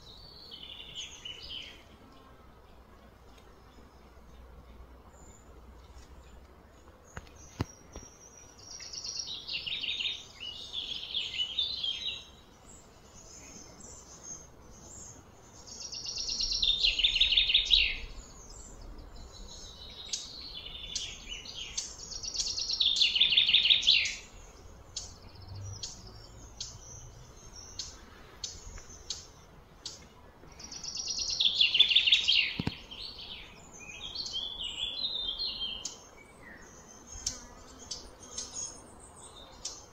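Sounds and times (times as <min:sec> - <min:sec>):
bird chirping: 0:00.0 - 0:02.9, 0:03.6 - 0:39.9.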